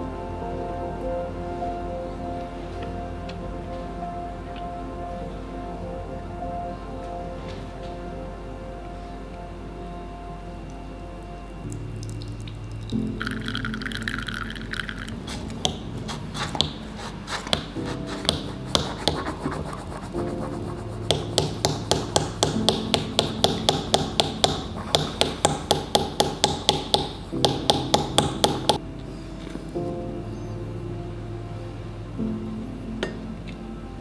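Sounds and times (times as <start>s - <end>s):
background music: 0.0s - 34.0s.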